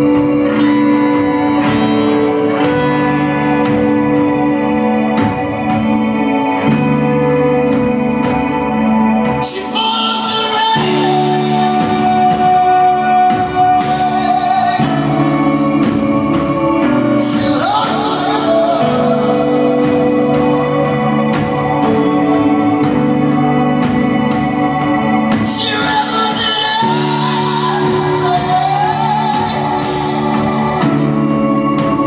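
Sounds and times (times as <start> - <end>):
electric guitar chords: 0.0 - 32.0
keyboard chords: 0.0 - 32.0
man singing long notes: 0.0 - 32.0.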